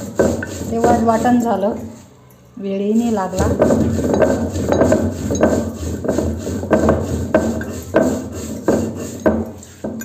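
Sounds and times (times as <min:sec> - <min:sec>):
stone roller rasping on slab: 0:00.0 - 0:01.8, 0:02.9 - 0:10.0.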